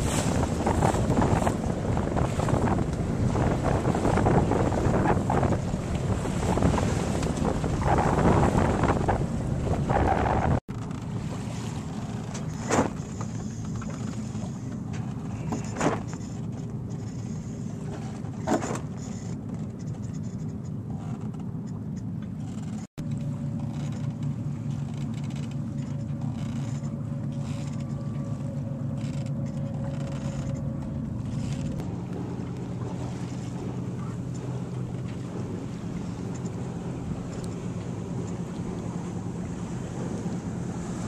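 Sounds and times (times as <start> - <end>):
wind and water rushing along hull: 0.0 - 41.0.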